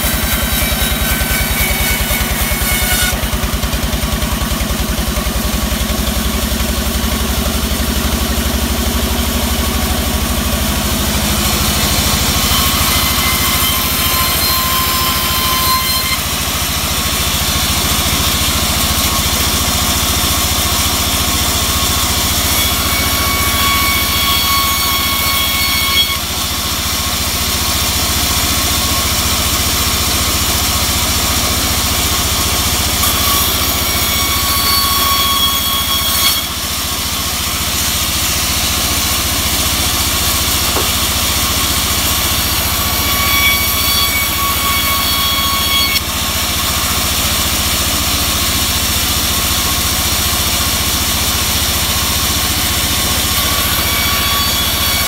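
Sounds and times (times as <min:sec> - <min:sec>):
band sawmill drive drone: 0:00.0 - 0:55.0
saw blade whining through wood: 0:00.0 - 0:55.0.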